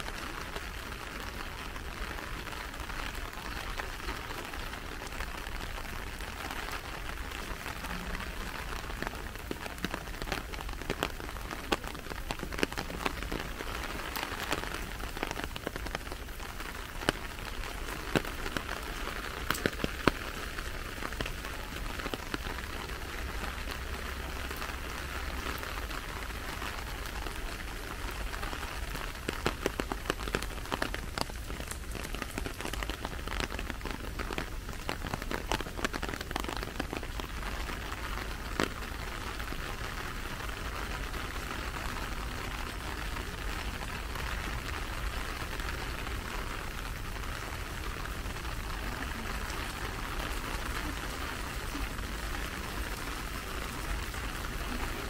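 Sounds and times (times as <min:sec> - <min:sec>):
rain hiss: 0:00.0 - 0:55.0
raindrop ticks: 0:00.0 - 0:55.0.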